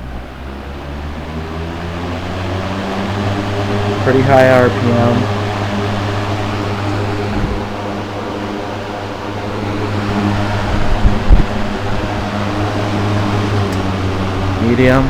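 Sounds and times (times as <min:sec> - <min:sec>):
electric motor hum: 0:00.0 - 0:15.0
fan air rushing: 0:00.0 - 0:15.0.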